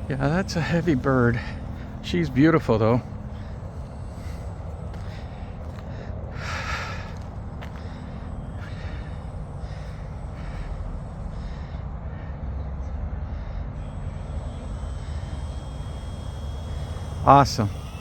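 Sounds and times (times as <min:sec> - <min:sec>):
faint high whine: 0:00.0 - 0:18.0
model plane engine drone: 0:00.0 - 0:18.0.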